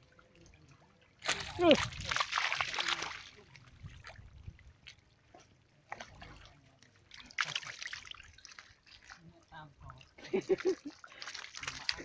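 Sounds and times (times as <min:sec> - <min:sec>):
splashing in shallow water: 0:00.0 - 0:12.0
small drips and spatters: 0:00.1 - 0:12.0.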